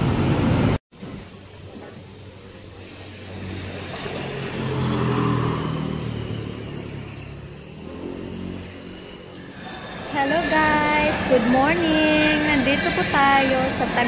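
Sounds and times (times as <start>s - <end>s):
street noise: 0.0s - 14.0s
motorcycle passing by: 2.5s - 14.0s.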